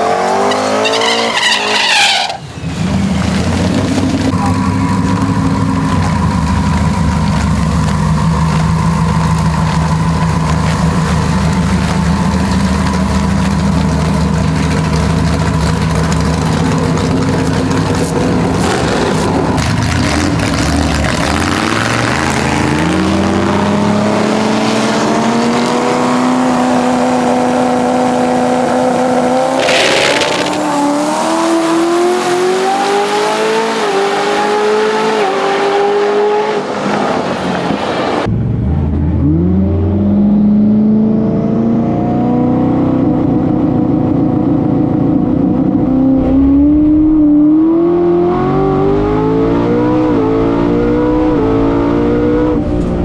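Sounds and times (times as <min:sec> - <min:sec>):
truck engine accelerating hard: 0:00.0 - 0:53.0.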